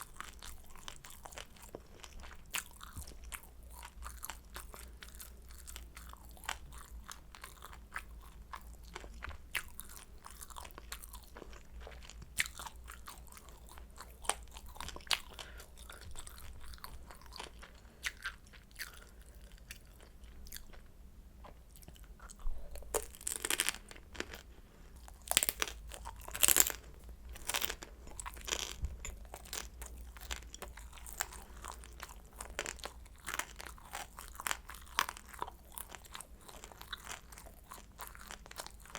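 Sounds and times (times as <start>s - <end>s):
chewing crispy dumplings: 0.0s - 38.9s.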